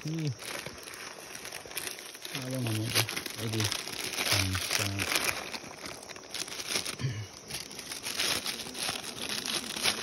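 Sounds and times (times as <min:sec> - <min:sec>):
plastic snack packet crinkling: 0:00.0 - 0:10.0.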